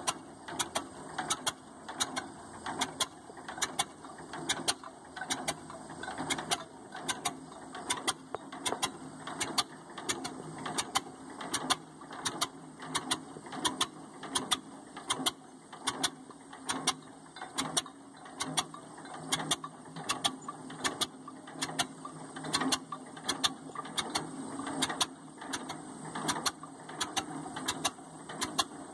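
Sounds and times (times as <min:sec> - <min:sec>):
tractor engine popping at idle: 0:00.0 - 0:28.9.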